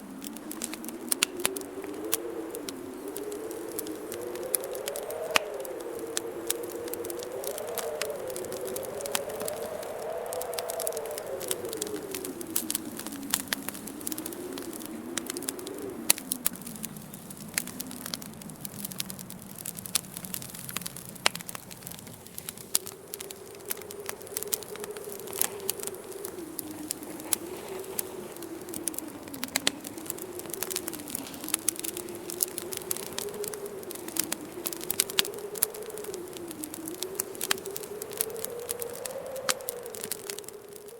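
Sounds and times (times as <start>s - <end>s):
low moaning wind: 0.0s - 40.9s
wood fire crackling and popping: 0.0s - 40.9s.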